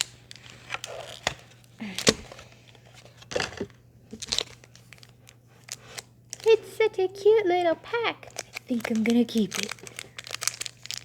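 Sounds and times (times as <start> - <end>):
foil pack crinkling: 0.0 - 11.0.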